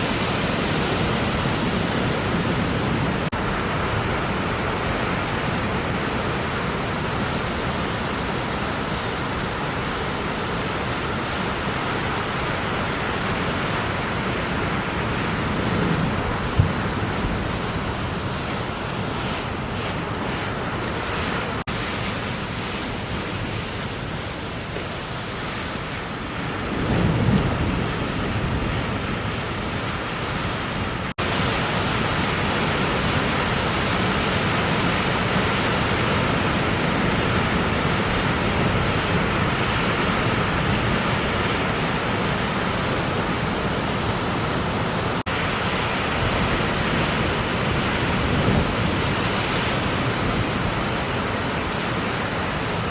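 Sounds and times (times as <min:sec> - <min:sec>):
ocean surf breaking: 0:00.0 - 0:52.9
wind noise on microphone: 0:00.0 - 0:52.9.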